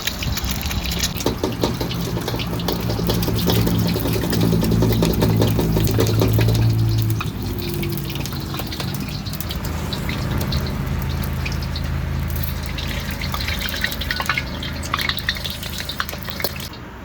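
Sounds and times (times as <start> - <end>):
utensils clicking and tapping: 0.0 - 16.8.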